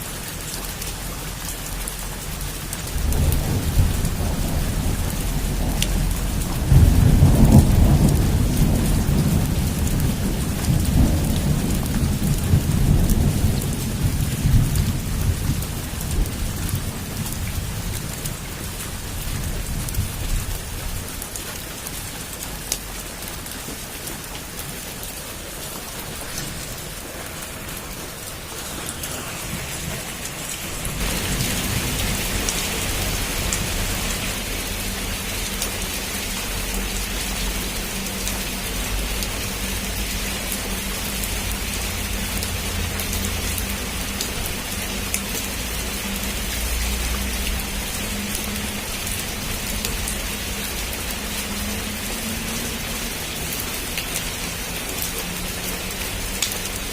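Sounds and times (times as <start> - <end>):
heavy rain: 0.0 - 56.9
thunder rumble: 2.8 - 21.4, 24.2 - 52.5.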